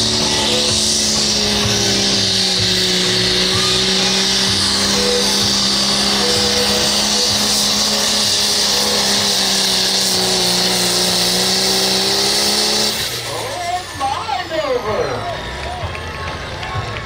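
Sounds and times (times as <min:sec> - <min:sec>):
diesel engine running flat out: 0:00.0 - 0:17.0.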